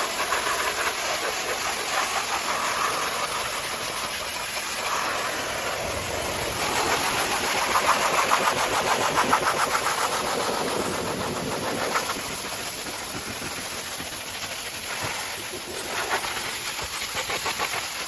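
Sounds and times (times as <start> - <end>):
pressure washer spraying water: 0.0 - 18.0.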